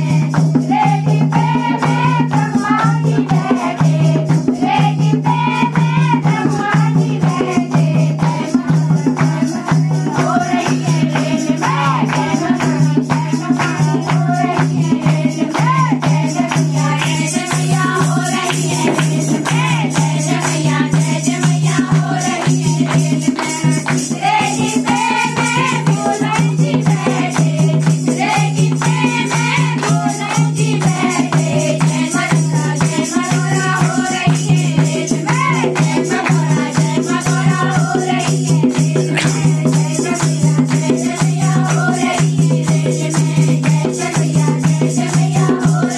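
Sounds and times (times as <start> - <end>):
hand drum beat: 0.0 - 45.9
women singing in unison: 0.0 - 45.9
hand clapping: 5.8 - 45.9.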